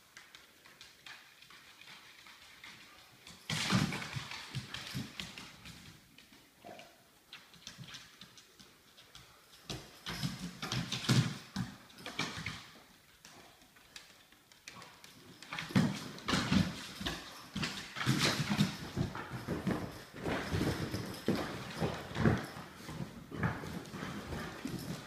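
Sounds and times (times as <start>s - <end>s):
dog paws scrabbling on hard floor: 0.0s - 25.0s.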